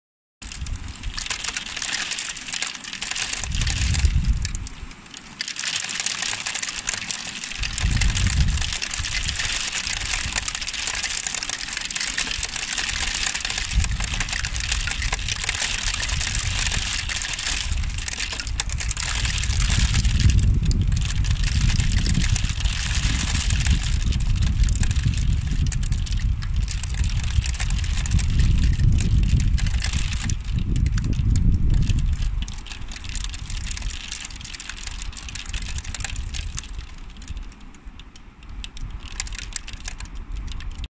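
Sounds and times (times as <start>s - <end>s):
wind buffeting microphone: 0.4s - 1.8s, 3.2s - 5.0s, 7.3s - 37.6s
hail and rain pelting: 0.4s - 40.9s.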